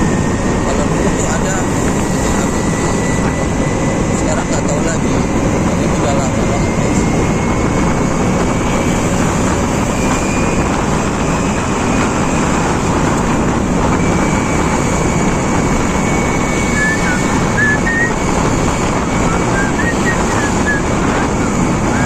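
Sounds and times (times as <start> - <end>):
scooter road noise: 0.0 - 22.0
wind on microphone: 0.0 - 22.0.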